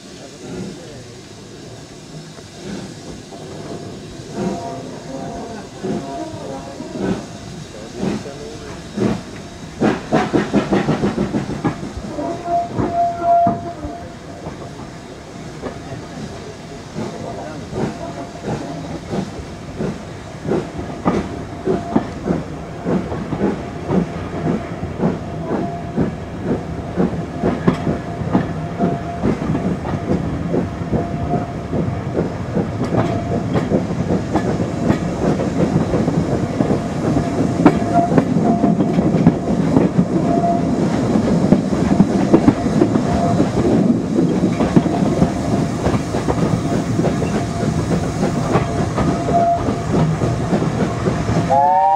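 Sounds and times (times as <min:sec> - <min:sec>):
steady steam hiss: 0:00.0 - 0:51.9
steam locomotive exhaust beats: 0:00.0 - 0:51.9
train wheels clickety-clack: 0:00.0 - 0:51.9.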